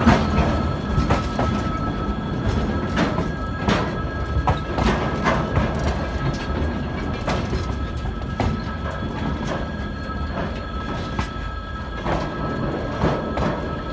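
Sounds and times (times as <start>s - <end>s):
train rumble: 0.0s - 13.9s
wheels clicking over rail joints: 0.0s - 13.9s.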